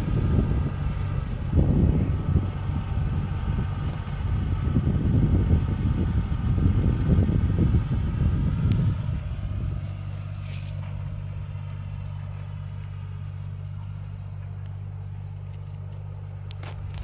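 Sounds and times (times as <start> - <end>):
tractor diesel engine: 0.0 - 17.0.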